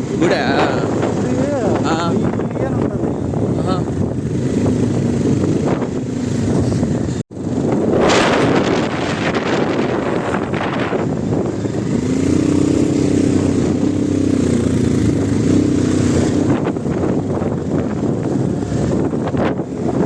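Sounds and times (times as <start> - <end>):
vehicle engine droning: 0.0 - 20.0
wind buffeting microphone: 0.0 - 20.0.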